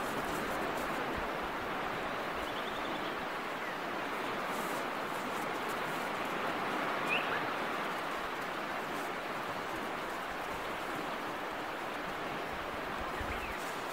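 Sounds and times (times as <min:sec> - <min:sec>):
beach ambience: 0:00.0 - 0:13.9.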